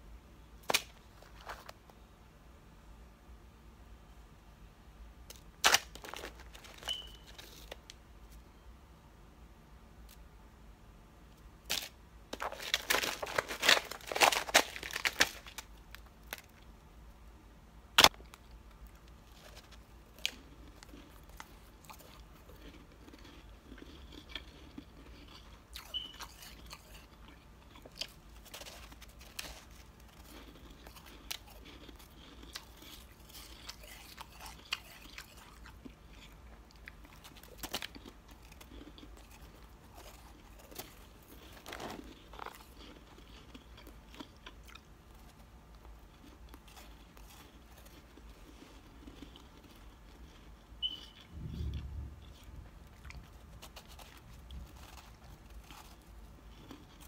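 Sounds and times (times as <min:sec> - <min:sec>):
frost crunching and chewing: 0:00.6 - 0:02.0, 0:05.2 - 0:08.4, 0:11.4 - 0:16.8, 0:17.9 - 0:57.0.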